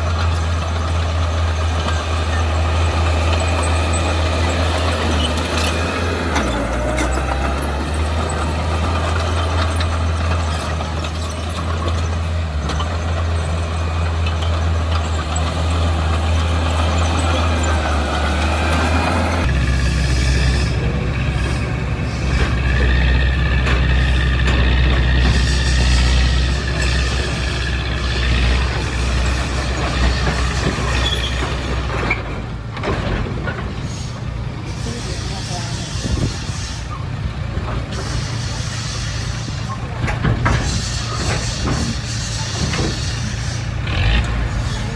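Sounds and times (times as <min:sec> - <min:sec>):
diesel engine running under load: 0:00.0 - 0:44.9
high squeaks from tracks: 0:00.0 - 0:44.9
metallic track clanking: 0:00.0 - 0:44.9.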